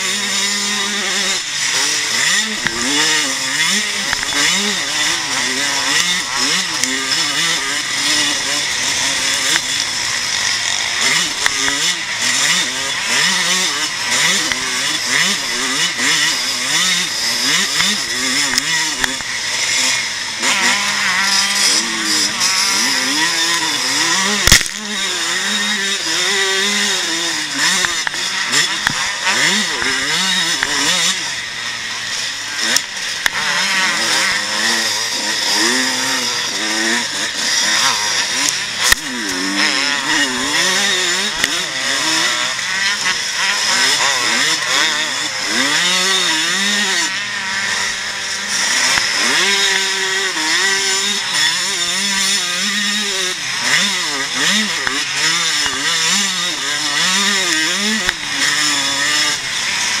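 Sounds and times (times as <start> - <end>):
motocross bike engine revving: 0.0 - 60.0.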